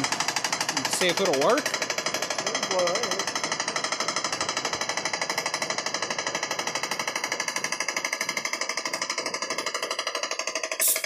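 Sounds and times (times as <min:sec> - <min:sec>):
air compressor pump pulsing: 0:00.0 - 0:11.0.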